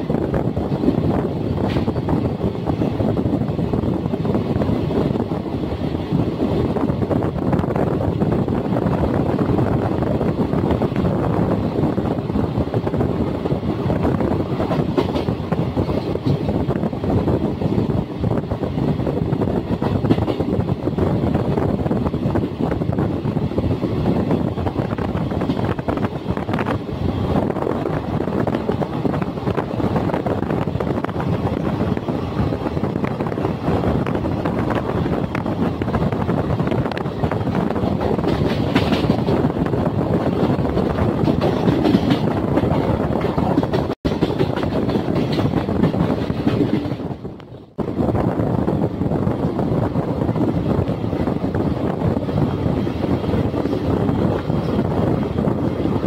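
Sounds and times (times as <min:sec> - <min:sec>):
train coaches running on rails: 0:00.0 - 0:56.0
wind on microphone: 0:00.0 - 0:56.0.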